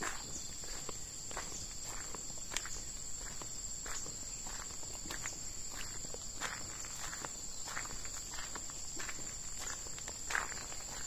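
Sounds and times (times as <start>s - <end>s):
footsteps on dry leaves: 0.0s - 11.0s
insects droning: 0.0s - 11.0s.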